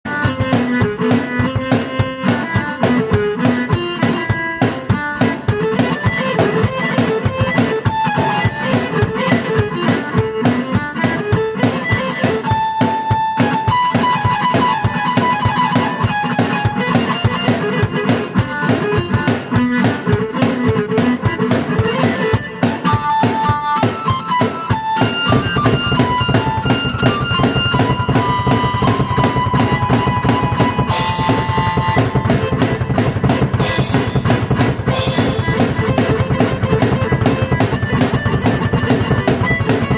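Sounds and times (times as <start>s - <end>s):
keyboard melody: 0.0s - 39.9s
drum beat: 0.1s - 39.9s.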